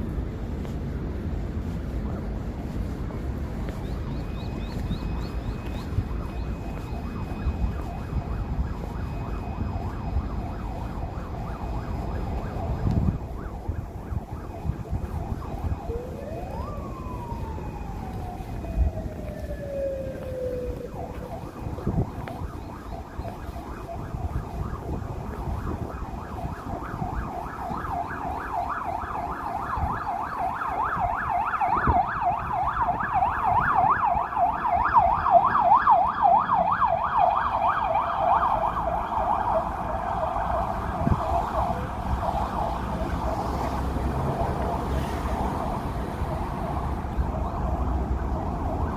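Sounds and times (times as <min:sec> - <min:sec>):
emergency vehicle siren: 0:00.0 - 0:48.9
traffic noise: 0:00.0 - 0:48.9.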